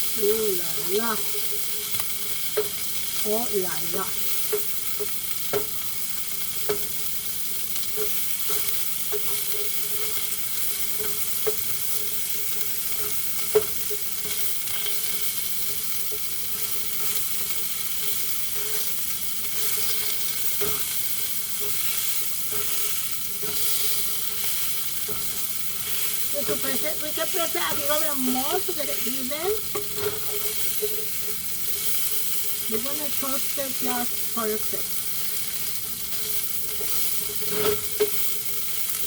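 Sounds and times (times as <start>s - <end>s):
chicken sizzling in oil: 0.0s - 39.0s.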